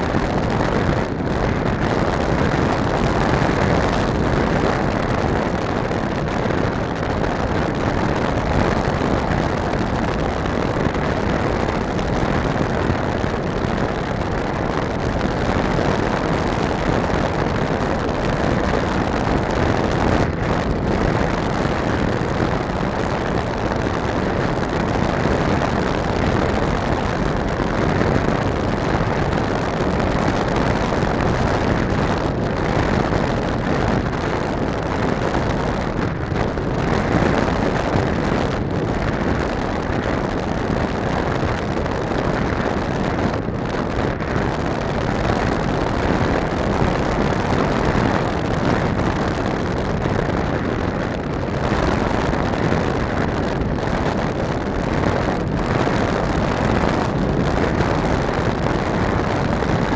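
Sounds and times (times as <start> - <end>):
electric motor and propeller: 0.0 - 59.9
wind rushing over microphone: 0.0 - 59.9.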